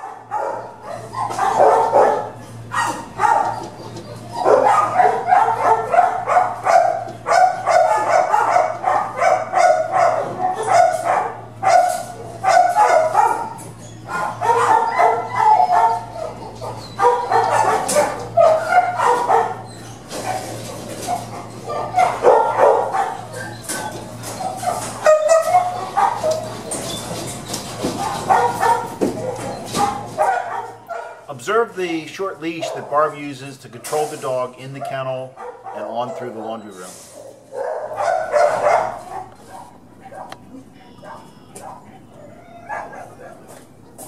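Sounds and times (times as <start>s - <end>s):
dogs barking: 0.0s - 44.0s.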